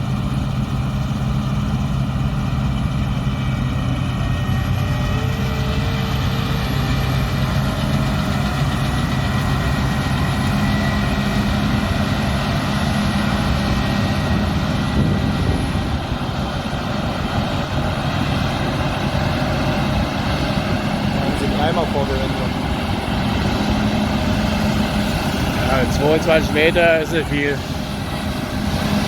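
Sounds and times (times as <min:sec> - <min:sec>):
combine harvester engine drone: 0:00.0 - 0:29.0
high machinery whine: 0:00.0 - 0:29.0.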